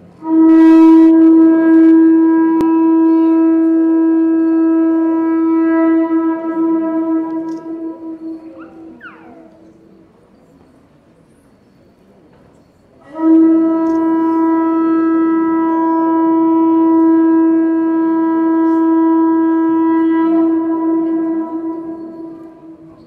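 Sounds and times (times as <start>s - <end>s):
conch shell trumpet note: 0.1s - 9.8s, 13.0s - 23.0s.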